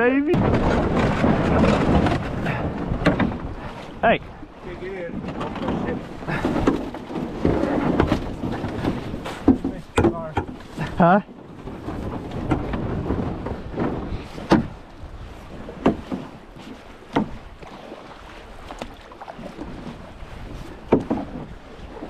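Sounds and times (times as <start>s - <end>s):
paddle strokes knocking and splashing: 0.0s - 22.0s
water rushing along a hull: 0.0s - 22.0s.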